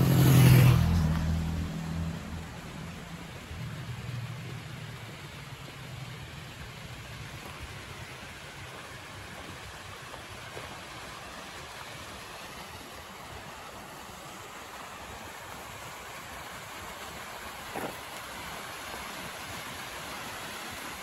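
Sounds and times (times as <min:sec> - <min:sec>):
flowing stream: 0:00.0 - 0:21.0.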